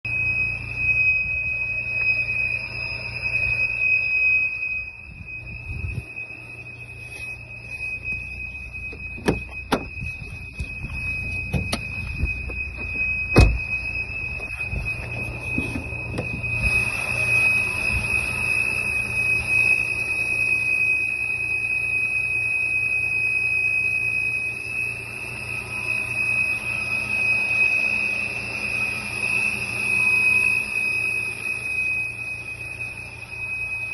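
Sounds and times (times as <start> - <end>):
car engine running with whistle: 0.0 - 33.9.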